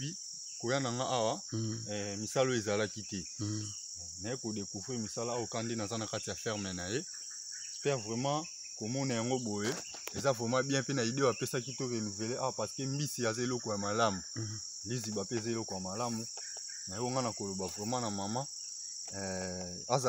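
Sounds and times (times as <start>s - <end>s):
man talking: 0.0s - 7.0s, 7.8s - 16.3s, 16.9s - 18.5s, 19.1s - 20.0s
high-pitched insect chorus: 0.0s - 20.0s.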